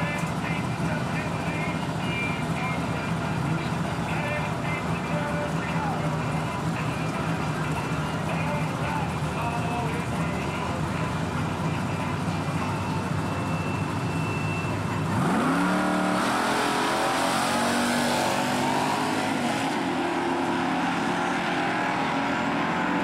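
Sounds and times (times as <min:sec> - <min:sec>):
truck engine revving and accelerating: 0:00.0 - 0:23.0.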